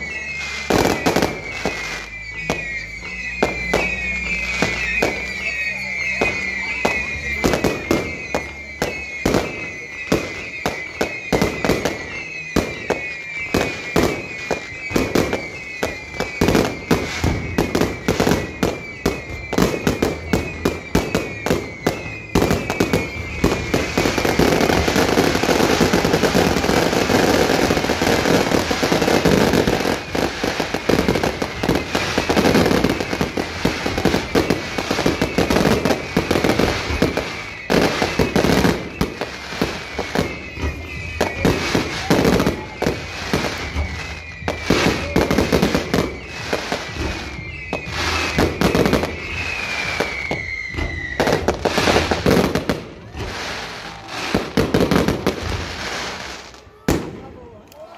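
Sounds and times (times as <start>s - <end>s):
fireworks bangs: 0.0s - 57.9s
fireworks falling whistle: 0.0s - 57.9s.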